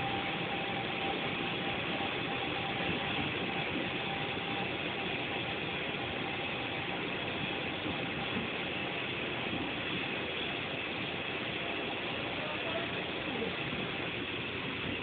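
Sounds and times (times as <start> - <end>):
faint steady tone: 0.0 - 15.0
subway car hum and hiss: 0.0 - 15.0.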